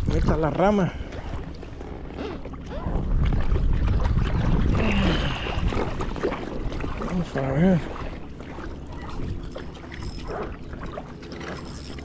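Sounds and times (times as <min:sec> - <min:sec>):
wind rumbling on microphone: 0:00.0 - 0:10.5.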